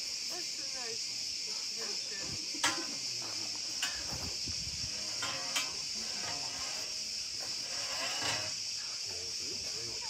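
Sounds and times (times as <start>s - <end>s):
insect chorus droning: 0.0s - 10.0s.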